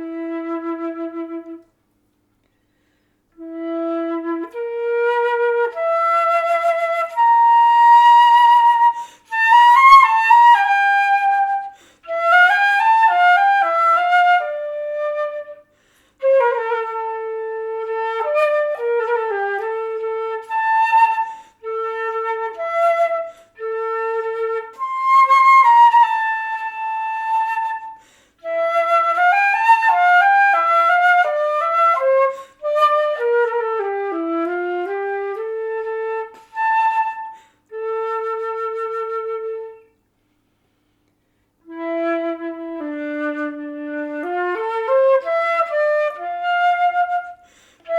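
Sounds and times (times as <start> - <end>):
solo flute melody: 0.0 - 2.1, 3.2 - 41.0, 41.6 - 47.9.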